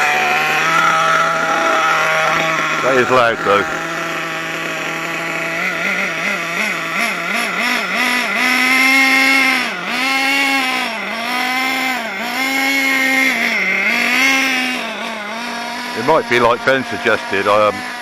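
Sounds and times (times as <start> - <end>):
model car nitro engine running: 0.0 - 18.0.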